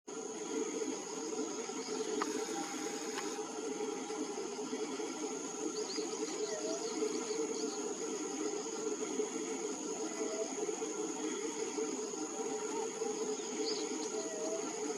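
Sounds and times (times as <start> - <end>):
high insect whine: 0.1 - 14.9.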